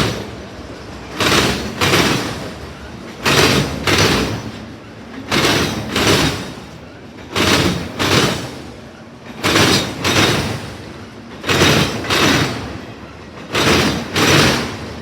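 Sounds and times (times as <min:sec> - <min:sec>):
train wheels clacking over rail joint: 0:00.0 - 0:15.0.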